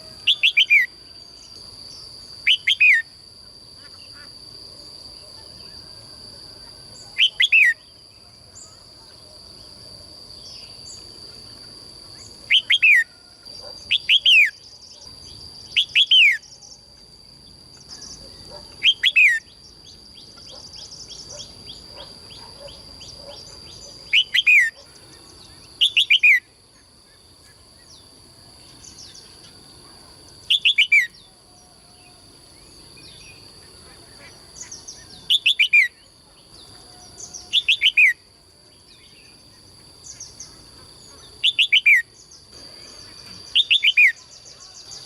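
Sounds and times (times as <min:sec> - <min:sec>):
songbird calling: 0:00.0 - 0:04.4, 0:06.6 - 0:09.7, 0:10.4 - 0:16.9, 0:17.7 - 0:45.0
steady high-pitched whine: 0:00.0 - 0:45.0.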